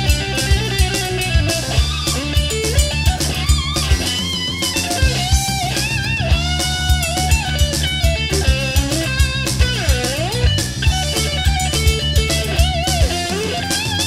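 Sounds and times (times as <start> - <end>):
bass guitar: 0.0 - 14.0
drum kit beat: 0.0 - 14.0
electric guitar lead: 0.0 - 14.0.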